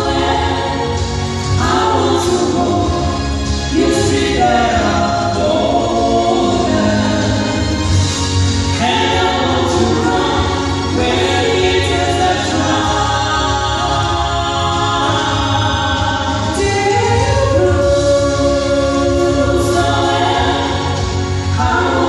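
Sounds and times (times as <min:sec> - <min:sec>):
vocal trio singing gospel: 0:00.0 - 0:22.0.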